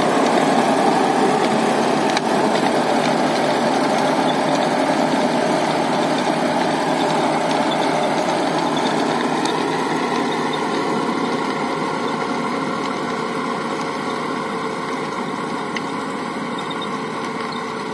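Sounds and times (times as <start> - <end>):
rotavator tilling dry soil: 0.0 - 17.9
tractor diesel engine running: 0.0 - 17.9.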